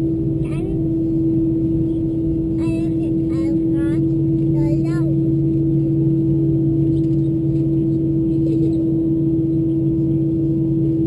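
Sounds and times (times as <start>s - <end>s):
jet engines idling in cabin: 0.0s - 11.0s.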